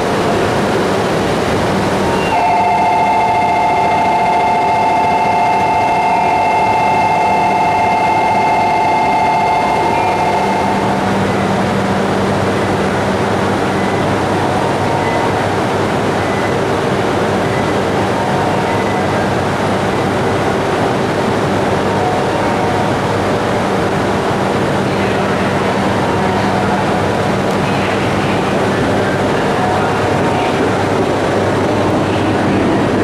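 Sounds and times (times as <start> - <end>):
station noise: 0.0 - 33.0
train electrical whine and hum: 0.0 - 33.0.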